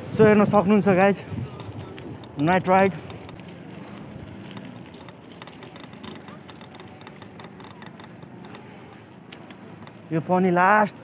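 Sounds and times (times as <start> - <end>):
bicycle rolling on paved road: 0.0 - 11.0
small clicks and rattles: 0.9 - 10.1.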